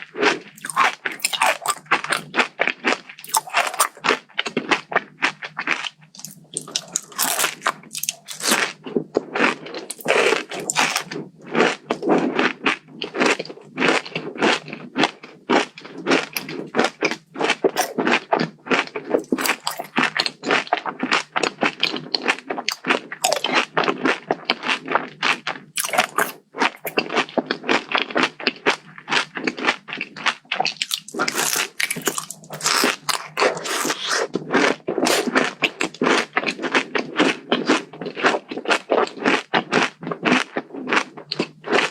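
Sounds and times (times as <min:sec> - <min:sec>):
crunching and chewing: 0:00.0 - 0:41.9.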